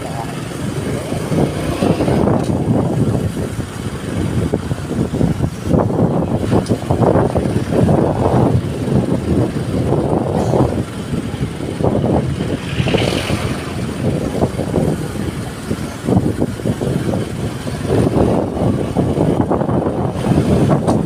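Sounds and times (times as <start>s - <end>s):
road vehicle rumbling: 0.0s - 21.0s.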